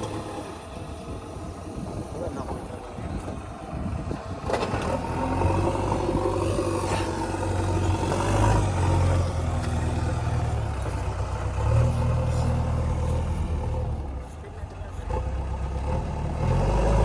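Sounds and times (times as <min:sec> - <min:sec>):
heavy diesel engine revving: 0:00.0 - 0:17.0.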